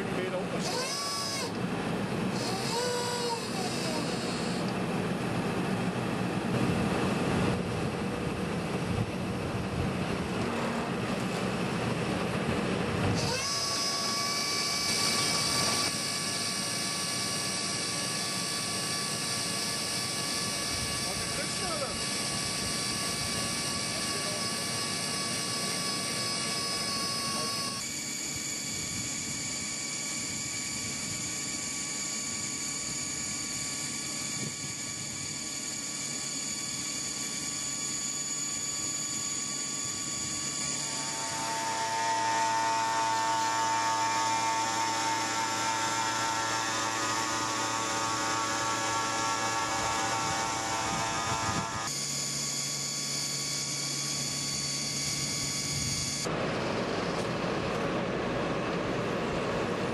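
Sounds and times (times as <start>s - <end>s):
drilling rig machine drone: 0.0s - 59.9s.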